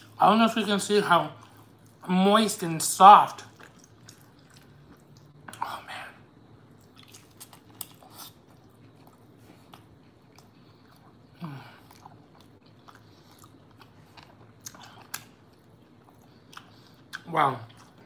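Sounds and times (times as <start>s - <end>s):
person chewing: 1.3s - 2.1s, 3.3s - 5.8s, 6.6s - 18.0s.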